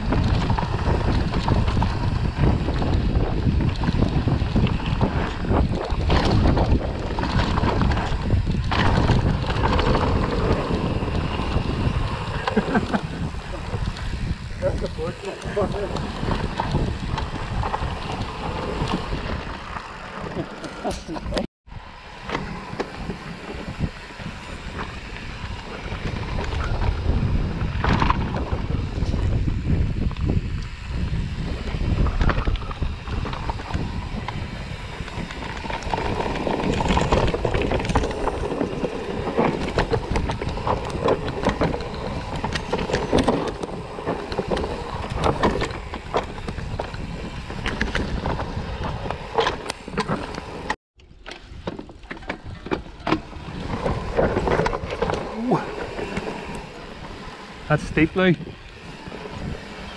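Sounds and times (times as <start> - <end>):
bike clicks and rattles: 0.0 - 21.5, 22.1 - 59.9
wind buffeting microphone: 0.0 - 50.8, 51.4 - 59.9
bike tyres on dirt: 0.0 - 59.9.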